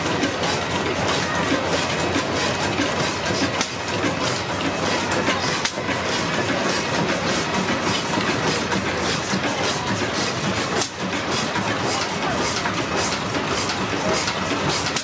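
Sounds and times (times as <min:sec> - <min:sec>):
stationary oil engine running: 0:00.0 - 0:15.0.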